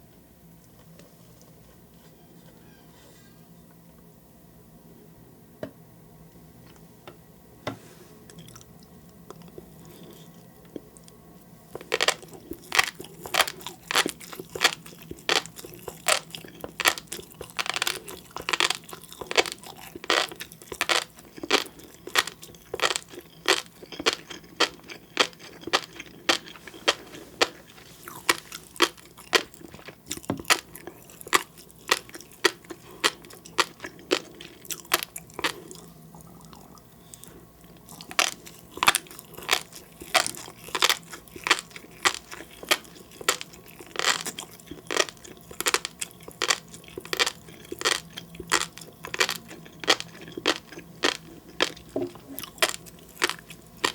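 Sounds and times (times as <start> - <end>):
crunchy chewing: 8.3 - 53.9.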